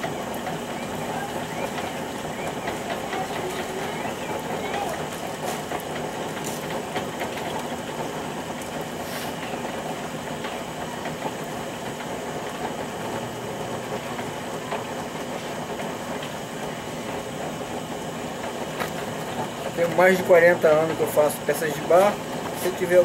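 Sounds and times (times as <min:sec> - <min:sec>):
potter's wheel motor humming: 0:00.0 - 0:23.0.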